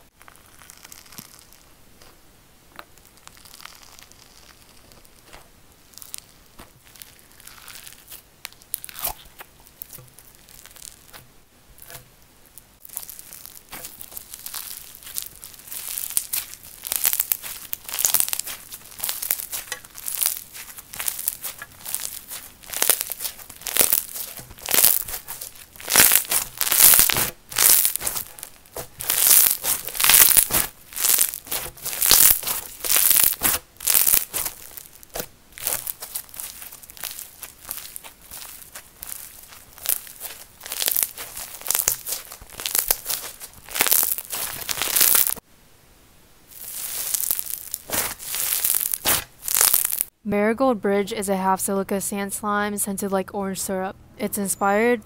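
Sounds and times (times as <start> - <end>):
foam slime crackling crunches: 0.0 - 2.2, 2.8 - 45.4, 46.5 - 50.1.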